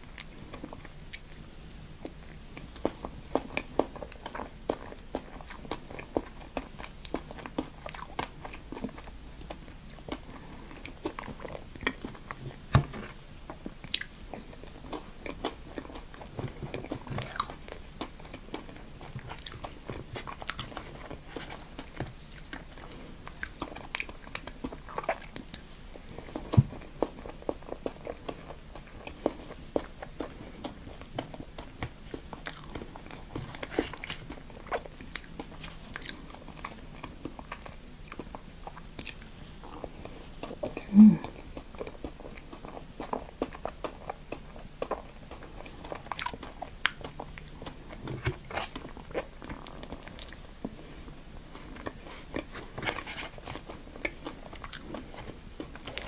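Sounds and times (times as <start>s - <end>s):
person chewing and biting food: 0.0s - 56.0s.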